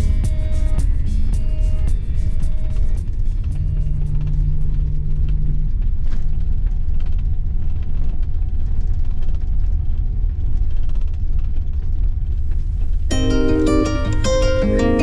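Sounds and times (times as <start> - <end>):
loud low rumble: 0.0 - 14.6.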